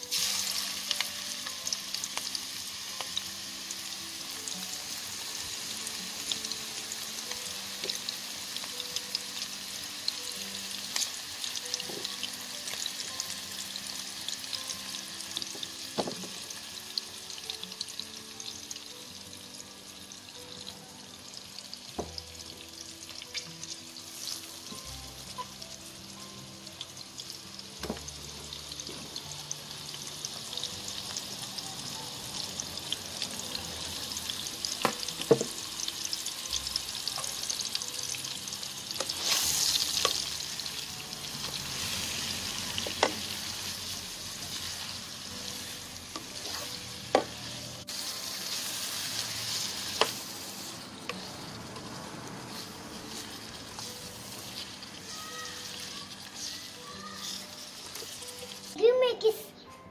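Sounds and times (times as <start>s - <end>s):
prawns sizzling in oil: 0.0s - 59.4s.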